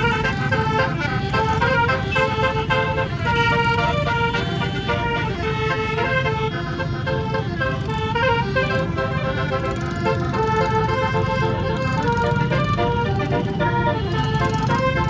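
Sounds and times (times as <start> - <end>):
air horn playing a tune: 0.0 - 15.0
bus rumble: 0.0 - 15.0
traffic: 0.0 - 15.0.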